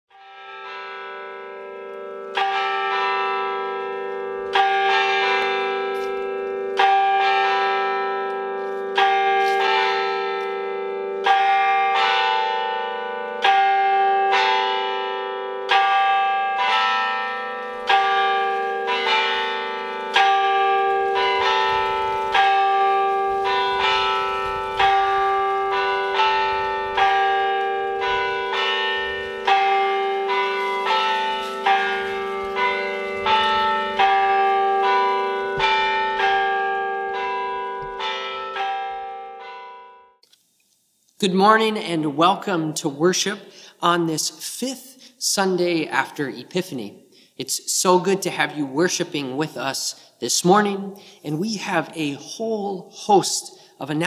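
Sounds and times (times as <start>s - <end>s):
church bells ringing: 0.1s - 40.2s, 41.2s - 54.0s.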